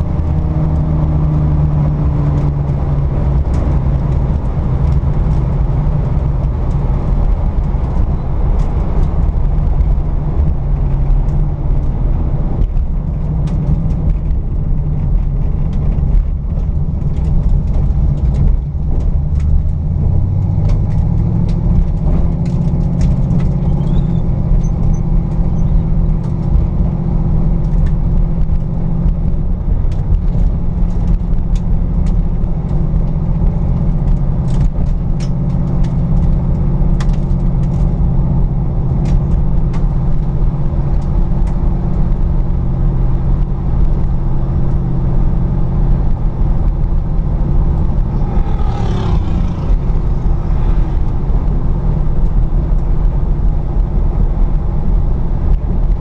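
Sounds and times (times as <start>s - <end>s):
car engine running: 0.0s - 56.0s
road and wind noise: 0.0s - 56.0s.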